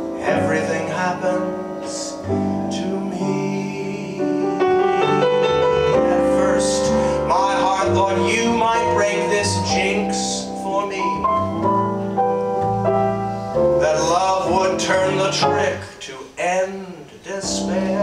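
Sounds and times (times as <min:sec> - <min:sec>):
man singing: 0:00.0 - 0:11.6, 0:13.8 - 0:18.0
slow jazz piano chords: 0:00.0 - 0:16.0, 0:17.3 - 0:18.0.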